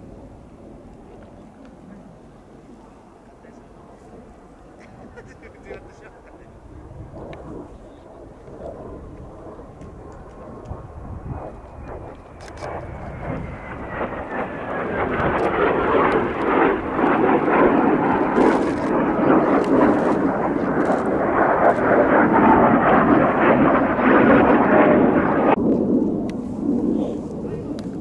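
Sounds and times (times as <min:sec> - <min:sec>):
jet aircraft roar: 0:00.0 - 0:28.0
jet whine falling in pitch: 0:05.2 - 0:27.9.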